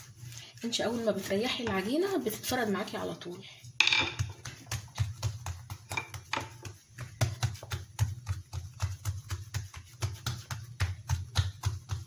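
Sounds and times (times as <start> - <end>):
hands slapping dough: 0.0 - 3.0, 3.6 - 12.0.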